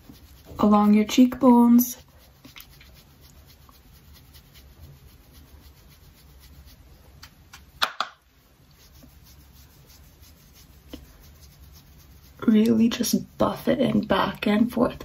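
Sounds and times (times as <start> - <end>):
brush scrape or tap: 0.0 - 13.2
makeup brush rubbing skin: 0.0 - 15.0.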